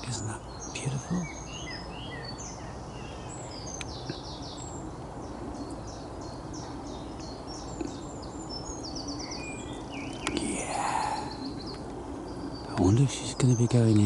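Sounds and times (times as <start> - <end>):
low background noise: 0.0 - 14.0
small birds singing: 0.0 - 14.0.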